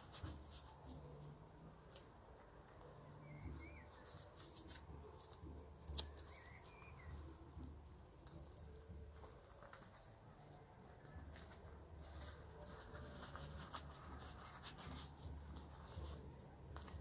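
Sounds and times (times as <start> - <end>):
leather gloves rustling: 0.0 - 17.0.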